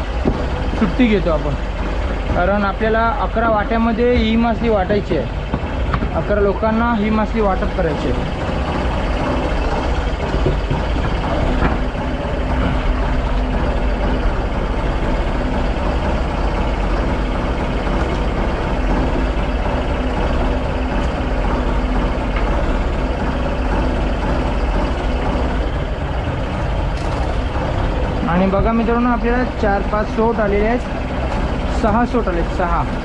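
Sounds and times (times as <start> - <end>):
boat diesel engine droning: 0.0 - 33.0.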